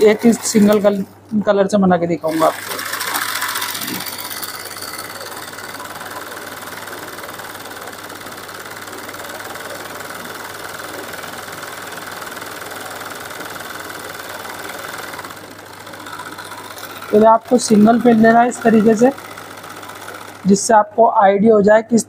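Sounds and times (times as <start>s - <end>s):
electric sewing machine running fast: 0.0s - 1.1s, 2.2s - 20.9s.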